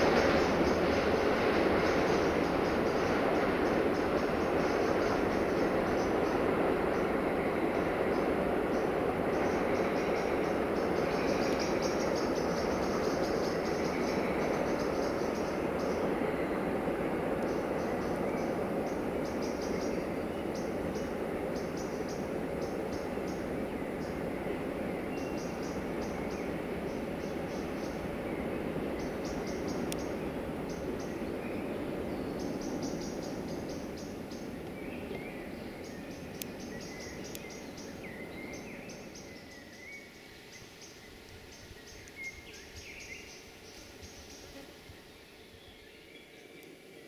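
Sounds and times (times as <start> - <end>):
steady rushing rumble: 0.0 - 40.0.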